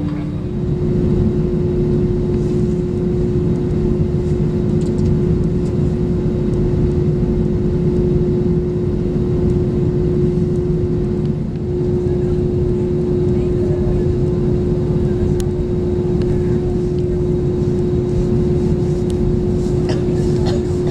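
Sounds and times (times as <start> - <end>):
aircraft cabin engine rumble: 0.0 - 20.9.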